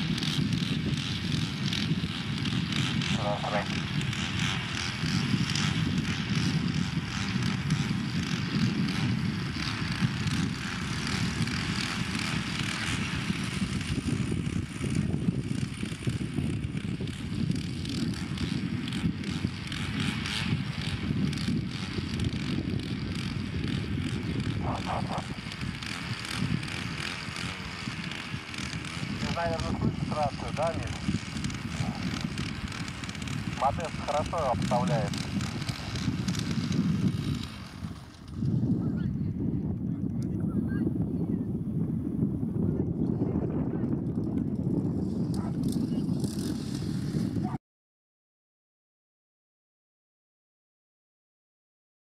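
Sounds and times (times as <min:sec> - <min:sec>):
wind buffeting microphone: 0:00.0 - 0:47.6.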